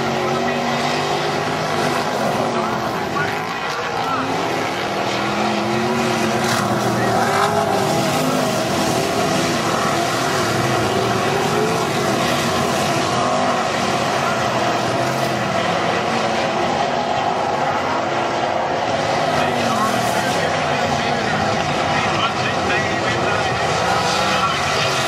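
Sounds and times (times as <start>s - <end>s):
race car engines: 0.0s - 25.0s.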